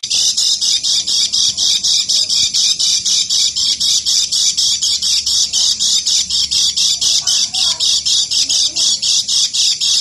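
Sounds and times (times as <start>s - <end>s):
bird harsh scratchy chatter: 0.0s - 10.0s.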